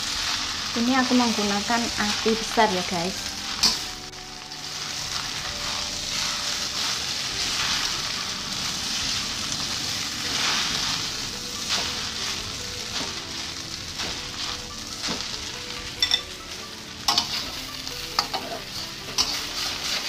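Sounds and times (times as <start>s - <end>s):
noodles sizzling in a wok: 0.0s - 20.0s
utensils scraping a wok: 0.0s - 20.0s.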